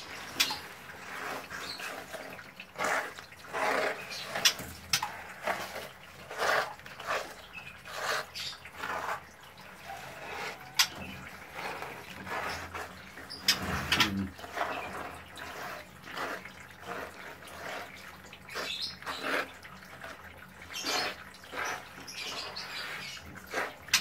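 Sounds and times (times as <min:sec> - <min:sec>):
hand scraping wet sand: 0:00.0 - 0:20.2, 0:20.8 - 0:24.0.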